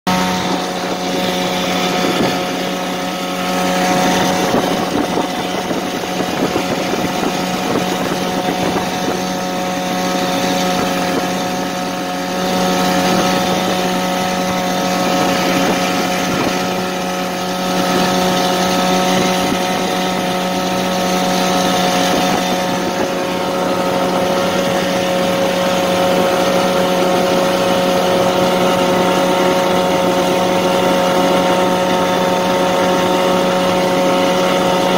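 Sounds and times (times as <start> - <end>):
outboard motor humming: 0.0 - 34.9.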